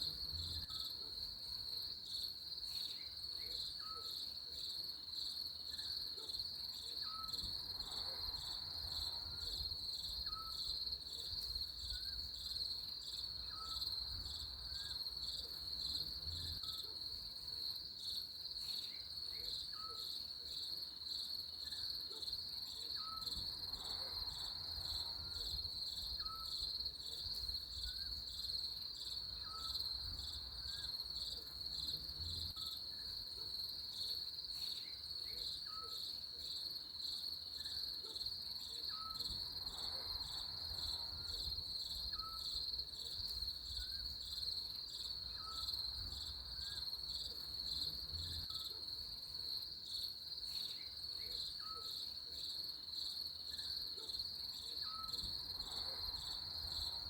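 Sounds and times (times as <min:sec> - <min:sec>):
crickets chorus: 0:00.0 - 0:57.0.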